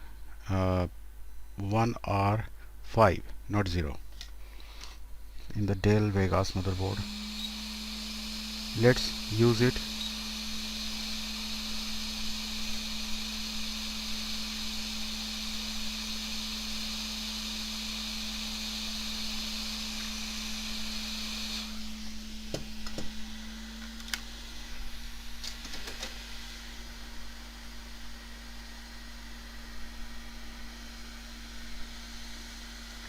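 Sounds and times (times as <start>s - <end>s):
steady hum: 0.0s - 33.0s
hot air station blowing hiss: 6.3s - 33.0s.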